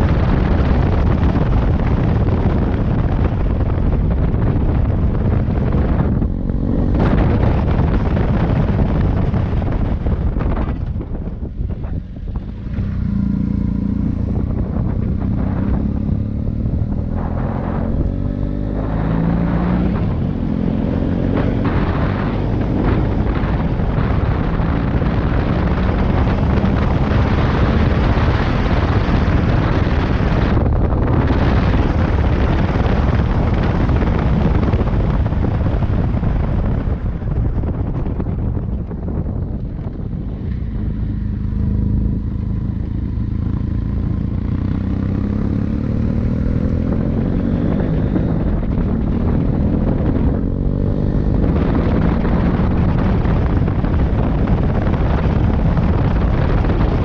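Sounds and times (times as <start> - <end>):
motorcycle engine accelerating: 0.0 - 57.0
wind buffeting microphone: 0.0 - 57.0.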